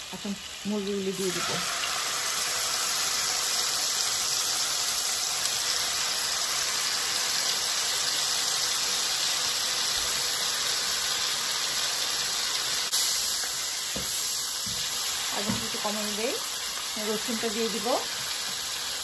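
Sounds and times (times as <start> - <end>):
oil sizzling in a frying pan: 0.0 - 19.0.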